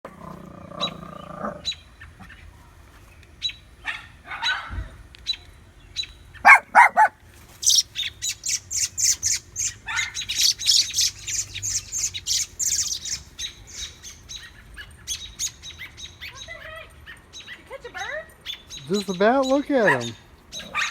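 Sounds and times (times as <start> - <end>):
birds scolding calls: 0.4 - 2.5, 3.3 - 20.9.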